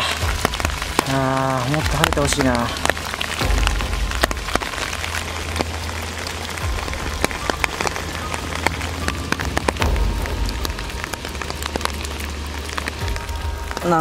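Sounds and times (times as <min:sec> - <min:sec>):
rain pattering on stream and foliage: 0:00.0 - 0:14.0.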